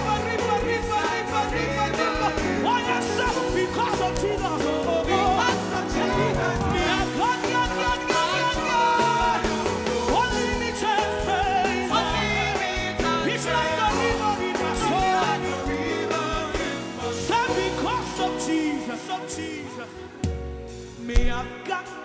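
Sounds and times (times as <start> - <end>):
gospel band playing: 0.0 - 22.0.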